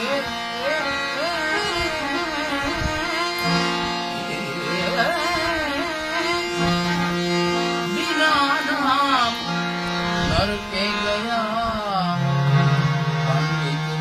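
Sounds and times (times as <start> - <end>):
harmonium sustained notes: 0.0 - 14.0
man singing: 0.0 - 14.0.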